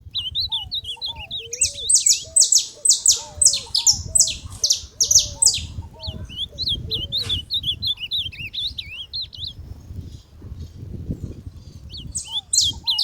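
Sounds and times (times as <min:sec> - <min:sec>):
soft bird chirping: 0:00.0 - 0:13.0.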